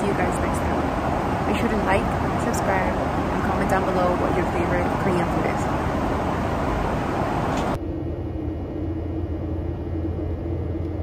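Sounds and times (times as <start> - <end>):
airliner cabin engine rush: 0.0 - 11.0
low cabin drone: 0.0 - 11.0.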